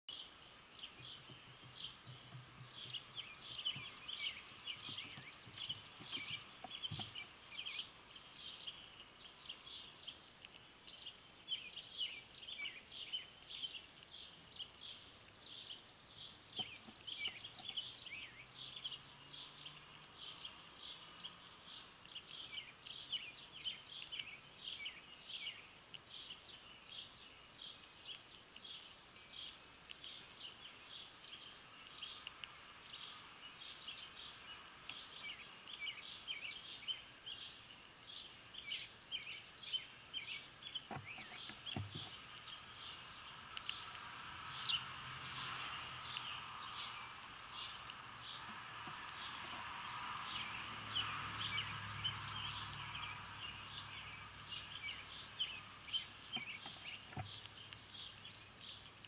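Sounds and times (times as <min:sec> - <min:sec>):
birds chirping falling notes: 0:00.1 - 0:59.0.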